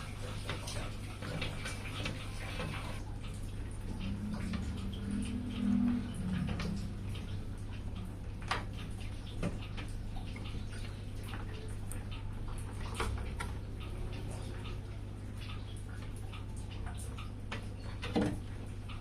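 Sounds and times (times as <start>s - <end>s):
steady low hum: 0.0s - 19.0s
light clicks and taps: 0.5s - 19.0s.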